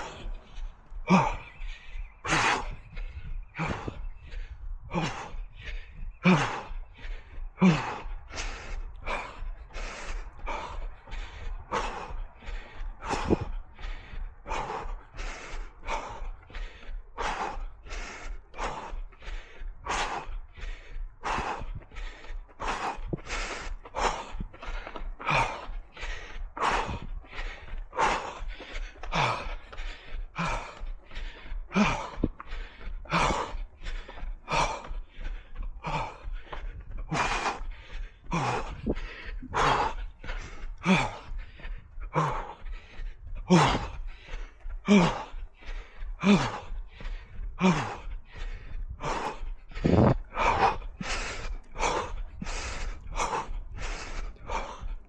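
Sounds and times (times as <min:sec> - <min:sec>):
runner breathing hard: 0:00.0 - 0:55.0.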